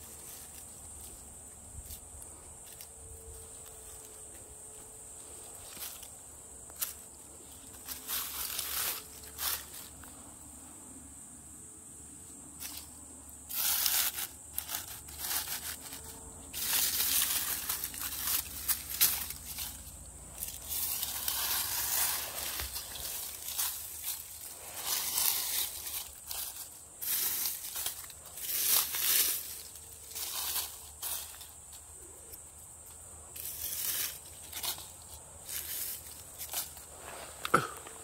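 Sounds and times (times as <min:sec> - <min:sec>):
leaves and needles crunching underfoot: 0:00.0 - 0:10.3, 0:12.6 - 0:38.0
high insect buzz: 0:00.0 - 0:38.0.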